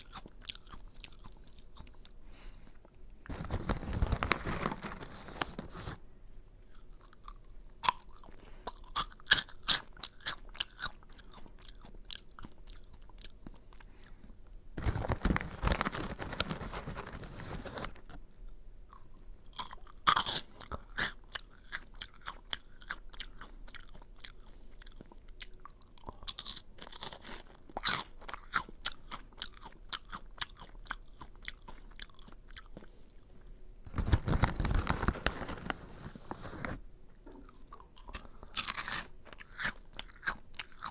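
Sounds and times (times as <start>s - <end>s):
crunchy snack being chewed: 0.0s - 6.0s, 6.6s - 40.9s.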